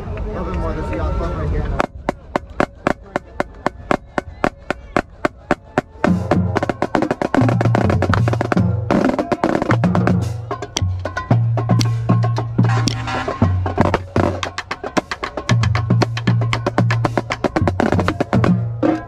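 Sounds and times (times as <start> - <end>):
marching bass drums: 1.8 - 19.0
snare drums: 1.8 - 19.0.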